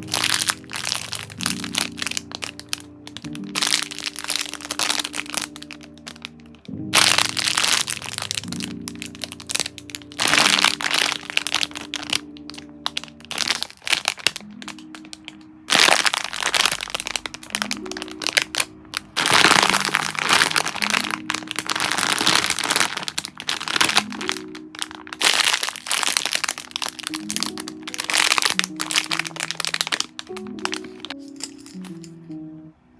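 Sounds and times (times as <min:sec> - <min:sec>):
plastic packaging crinkling: 0:00.0 - 0:32.0
background music: 0:00.0 - 0:32.9.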